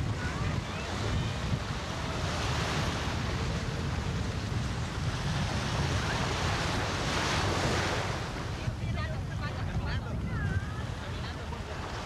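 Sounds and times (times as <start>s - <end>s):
small waves washing in shallows: 0.0s - 12.0s
wind rumble on microphone: 0.0s - 12.0s.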